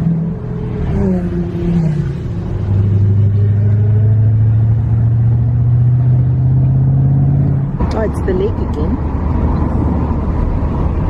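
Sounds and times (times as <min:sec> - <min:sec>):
car engine: 0:00.0 - 0:11.0
road rumble: 0:00.0 - 0:11.0.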